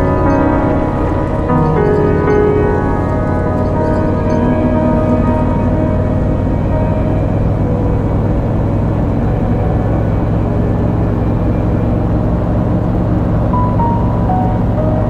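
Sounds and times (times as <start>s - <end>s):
paramotor engine drone: 0.0s - 15.0s.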